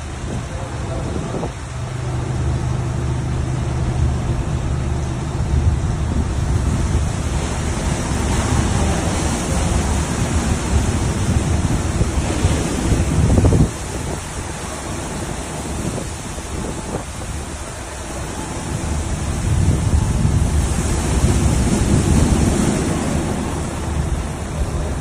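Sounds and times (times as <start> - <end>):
continuous rushing hiss: 0.0 - 25.0
steady motor hum: 0.0 - 25.0.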